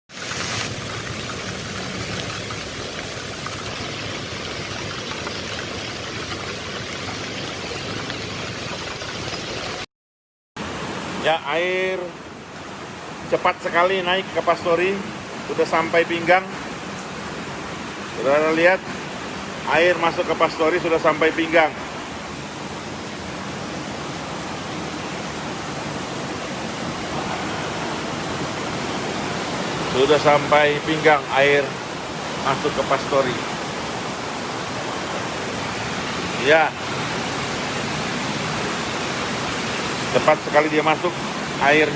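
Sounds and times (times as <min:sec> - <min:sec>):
heavy rain: 0:00.1 - 0:09.9, 0:10.6 - 0:41.9
rushing floodwater: 0:00.1 - 0:09.9, 0:10.6 - 0:41.9.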